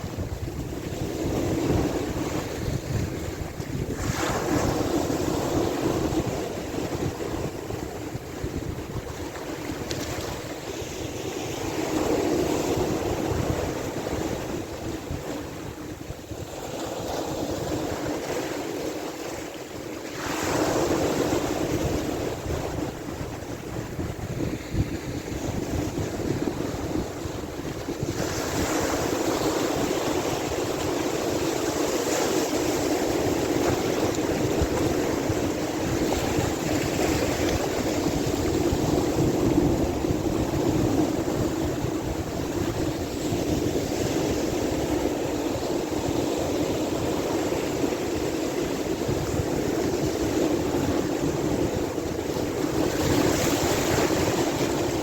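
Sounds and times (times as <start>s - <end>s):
sea waves washing in: 0.0s - 55.0s
wind rumbling on microphone: 0.0s - 55.0s.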